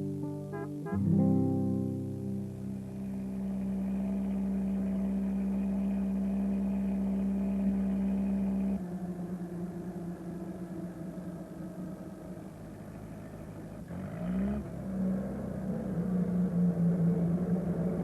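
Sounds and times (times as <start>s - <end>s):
van engine running: 0.0s - 18.0s.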